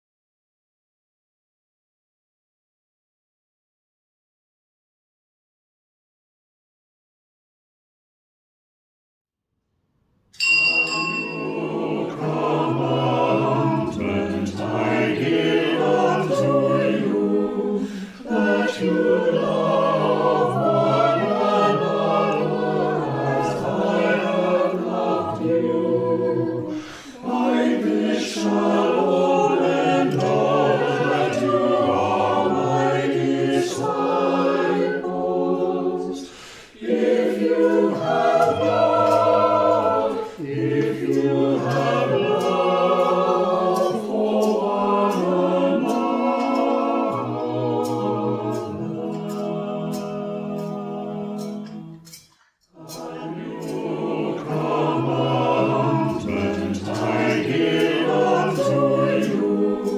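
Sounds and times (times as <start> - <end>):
choir singing unaccompanied: 10.4 - 59.9.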